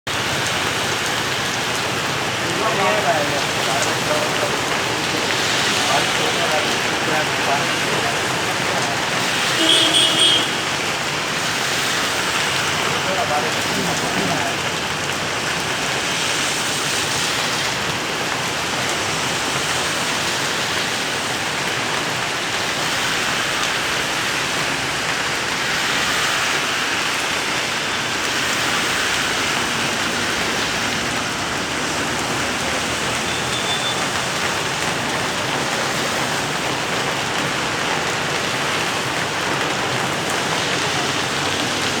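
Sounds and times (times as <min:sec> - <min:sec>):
rain falling steadily: 0:00.1 - 0:42.0.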